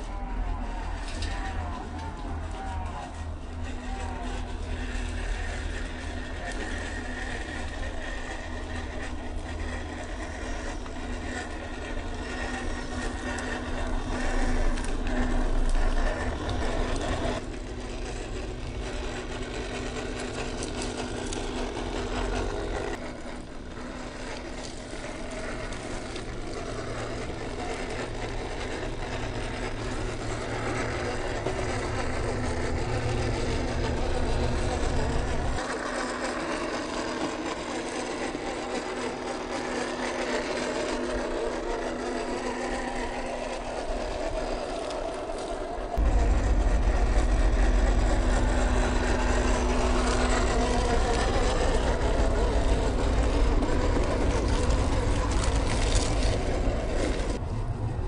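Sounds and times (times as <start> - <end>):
small electric motor whirring: 0.0 - 57.4.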